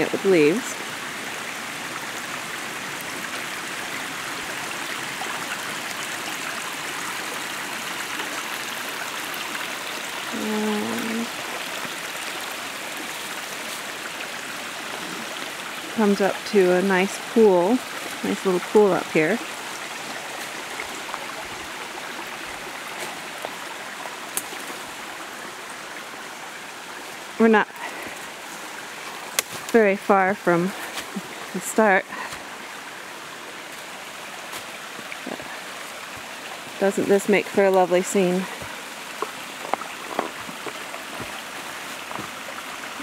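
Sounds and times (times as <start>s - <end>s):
stream babbling over rocks: 0.0s - 43.0s
water splashes and drips: 0.0s - 43.0s.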